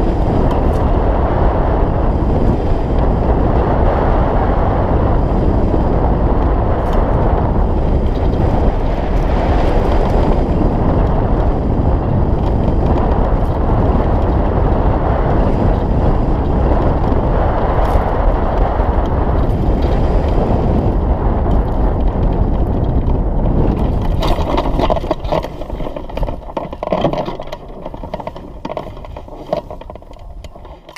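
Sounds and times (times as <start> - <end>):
wind rushing over microphone: 0.0 - 30.9.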